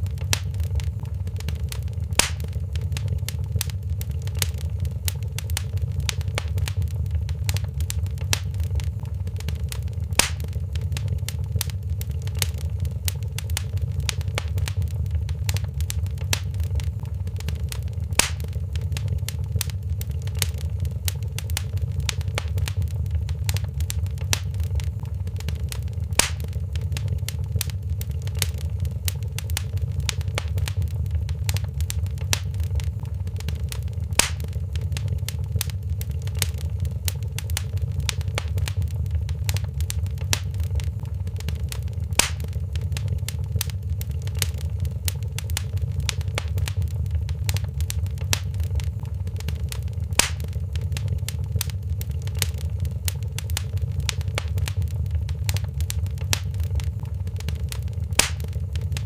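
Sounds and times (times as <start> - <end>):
fire popping loudly: 0.0 - 59.0
wood fire crackling: 0.0 - 59.0.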